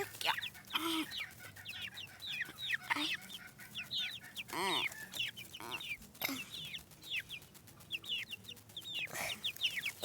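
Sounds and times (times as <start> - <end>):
chicks peeping: 0.0 - 10.0
rustling: 0.0 - 10.0.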